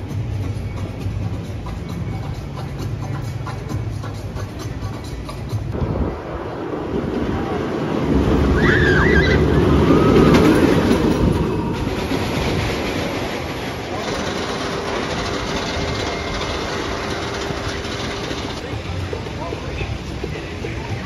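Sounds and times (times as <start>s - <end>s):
roller coaster rumbling on rails: 0.0s - 21.0s.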